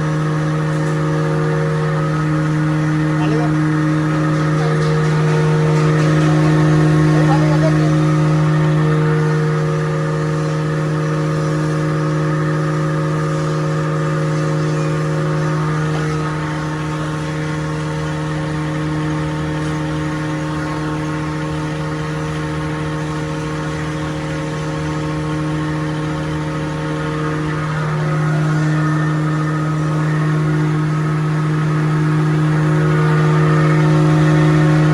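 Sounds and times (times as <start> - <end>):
wood grinding machine running: 0.0 - 34.9.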